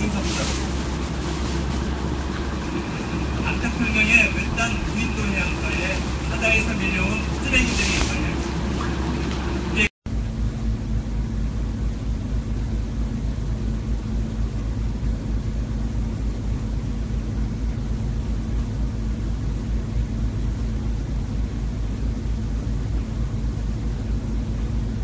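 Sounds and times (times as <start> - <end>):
constant hum: 0.0 - 25.0
steady low rumble: 0.0 - 25.0.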